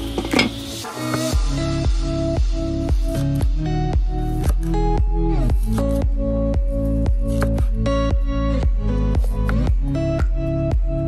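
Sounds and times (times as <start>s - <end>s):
laid-back house music: 0.0s - 11.0s.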